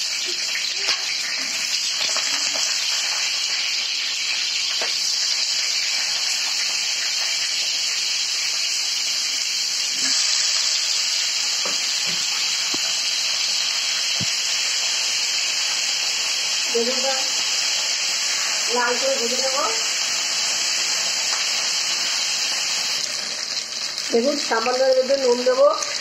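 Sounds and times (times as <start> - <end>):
eggplant sizzling in hot oil: 0.0 - 26.0.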